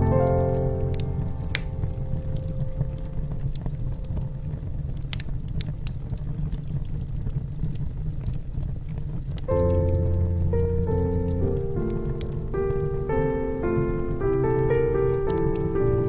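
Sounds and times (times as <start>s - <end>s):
fire crackles and pops: 0.0s - 16.0s
fire rumbling: 0.0s - 16.0s.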